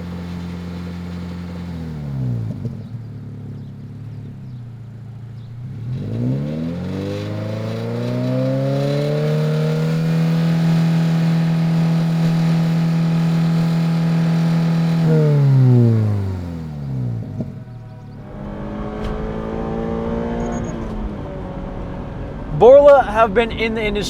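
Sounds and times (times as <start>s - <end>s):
car engine revving: 0.0s - 23.3s.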